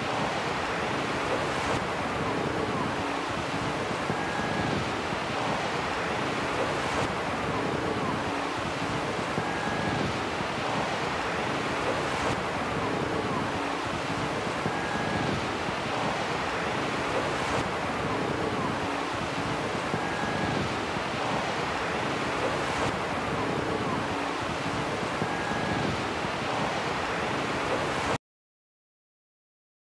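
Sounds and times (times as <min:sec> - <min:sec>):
rushing wind: 0:00.0 - 0:28.2
surf noise: 0:00.0 - 0:28.2.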